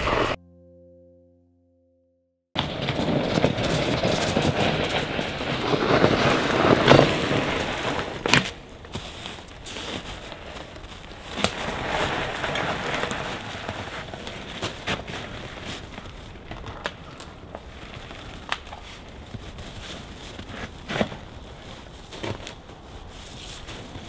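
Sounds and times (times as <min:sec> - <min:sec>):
bike tyres rolling on snow: 0:02.6 - 0:24.0
footsteps crunching snow: 0:02.6 - 0:24.0.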